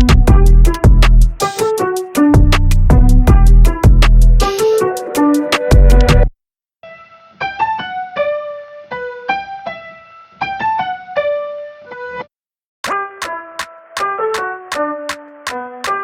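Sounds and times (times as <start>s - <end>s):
electric piano melody: 0.0s - 6.3s, 7.4s - 12.3s, 12.9s - 16.0s.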